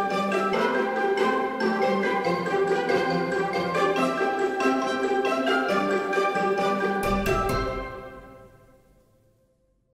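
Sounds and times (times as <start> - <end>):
background music notes: 0.0 - 9.5.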